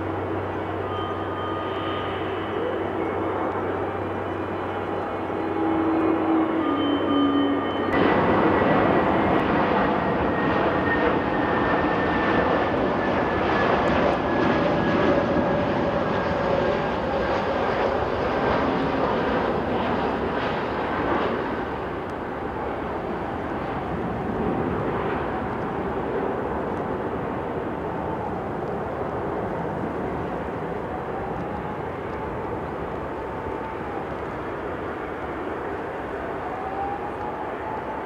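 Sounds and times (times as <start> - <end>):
high jet whine: 0.0 - 38.0
jet engine roar: 0.0 - 38.0.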